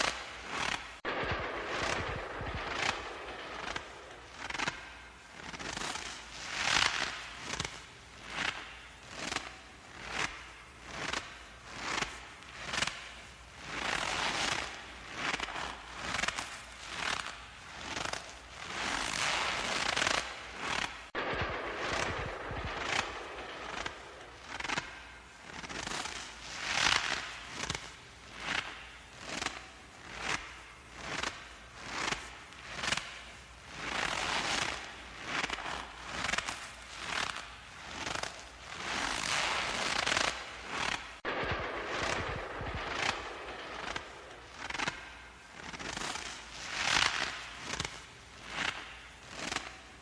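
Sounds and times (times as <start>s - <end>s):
footsteps crunching through snow: 0.0s - 50.0s.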